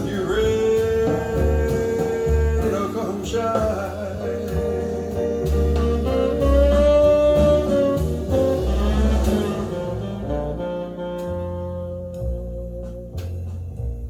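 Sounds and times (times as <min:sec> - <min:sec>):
lead instrument melody: 0:00.0 - 0:13.6
bass line: 0:00.0 - 0:14.0
jazz band accompaniment: 0:00.0 - 0:14.0.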